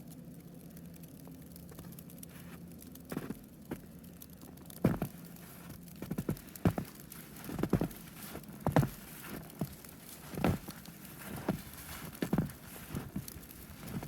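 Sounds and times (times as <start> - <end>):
footsteps crunching in snow: 1.8 - 3.9, 4.8 - 14.0.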